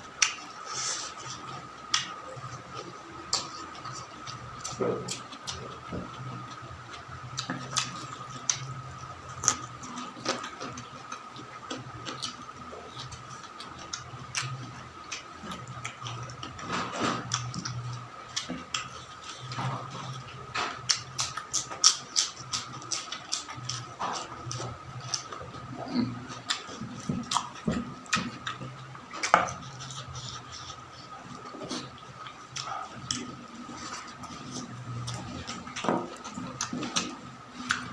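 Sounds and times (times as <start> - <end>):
food crunching: 0.2 - 37.9
person chewing food: 0.2 - 37.9.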